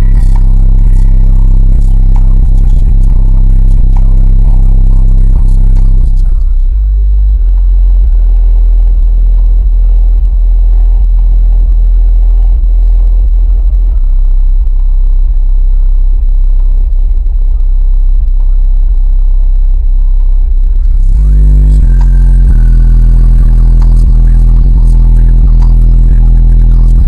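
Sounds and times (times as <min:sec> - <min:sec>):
bass-heavy song on subwoofers: 0:00.0 - 0:27.0.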